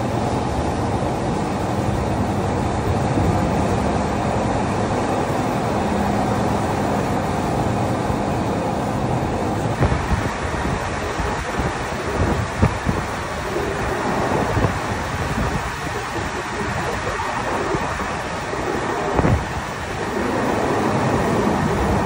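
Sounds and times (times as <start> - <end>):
boat engine running: 0.0 - 22.0
water along a hull: 0.0 - 22.0
wind buffeting microphone: 0.0 - 22.0.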